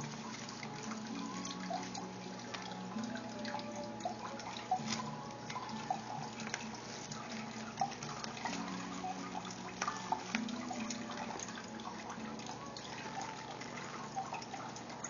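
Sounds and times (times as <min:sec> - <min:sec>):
bubble wrap and straws clicking: 0:00.0 - 0:15.0
water trickling and dripping: 0:00.0 - 0:15.0.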